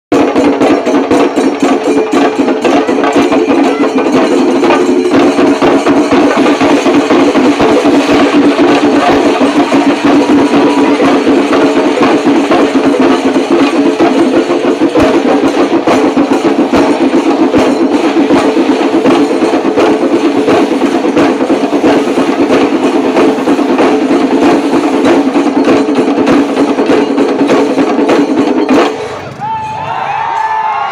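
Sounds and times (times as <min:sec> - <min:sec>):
rapid drum strokes: 0:00.1 - 0:30.6.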